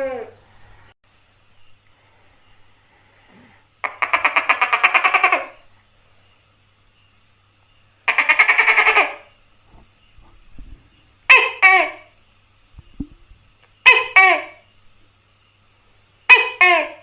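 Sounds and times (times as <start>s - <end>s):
gecko rattling trills: 1.7s - 17.0s.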